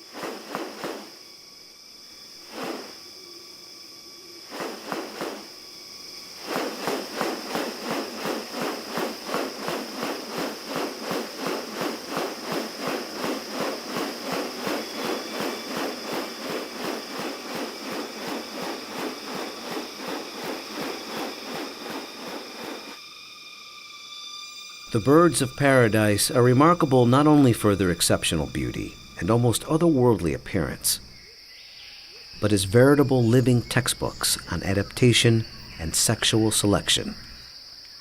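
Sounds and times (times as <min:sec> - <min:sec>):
high insect whine: 0:00.0 - 0:38.0.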